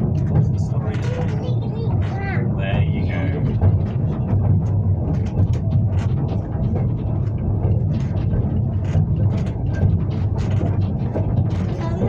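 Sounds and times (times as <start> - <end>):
clicks and rattles of carriage: 0.0 - 12.0
train wheels rumbling on track: 0.0 - 12.0.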